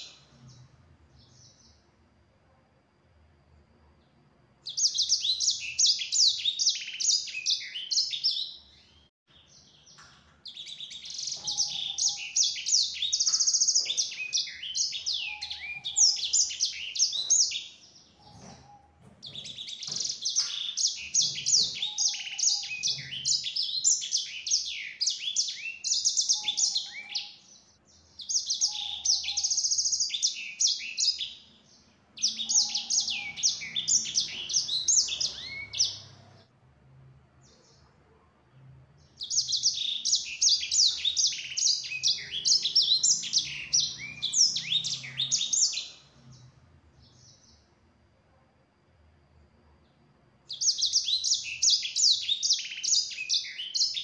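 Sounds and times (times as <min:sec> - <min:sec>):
canary twittering song: 0:04.6 - 0:36.5, 0:39.0 - 0:47.7, 0:50.5 - 0:54.0.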